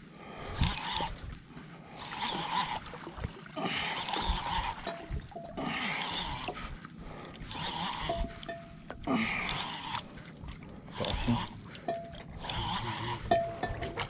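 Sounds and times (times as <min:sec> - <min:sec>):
water lapping against boat hull: 0:00.0 - 0:14.0.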